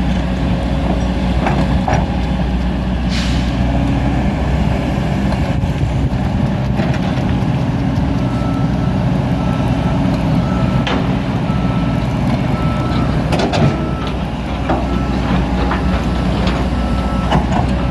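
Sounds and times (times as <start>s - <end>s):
diesel engine droning: 0.0s - 17.9s.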